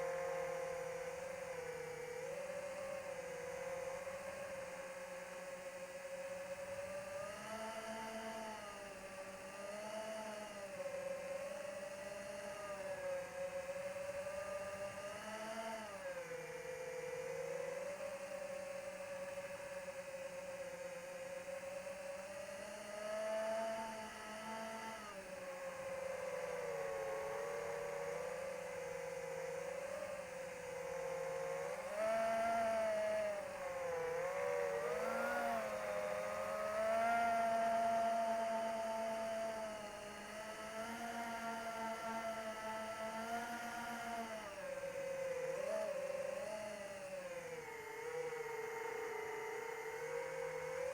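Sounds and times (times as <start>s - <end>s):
electric propeller motors whirring: 0.0s - 50.9s.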